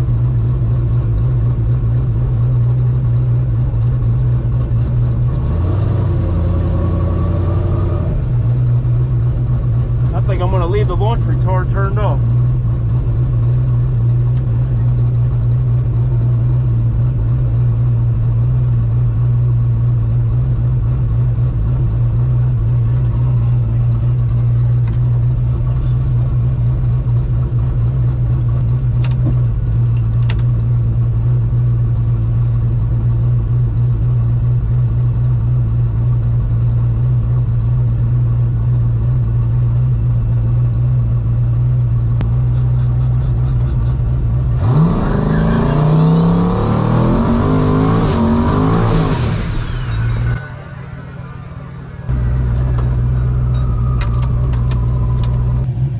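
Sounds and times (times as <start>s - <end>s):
car engine idling: 0.0s - 44.6s, 47.3s - 55.9s.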